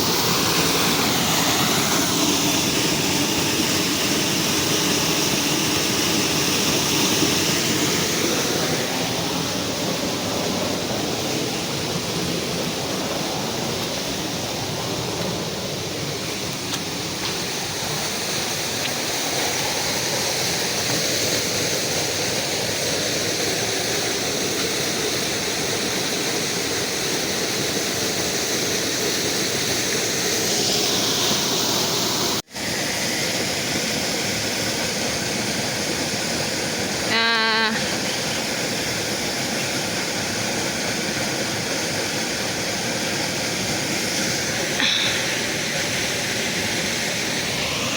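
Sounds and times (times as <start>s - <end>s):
water rushing: 0.0s - 47.9s.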